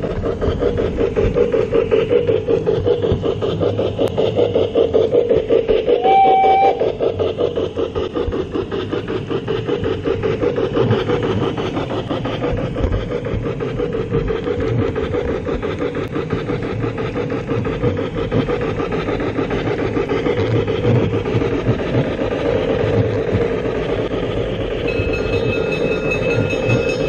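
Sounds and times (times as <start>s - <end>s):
model steam chuffing: 0.0s - 27.0s
model train rolling gear noise: 0.0s - 27.0s.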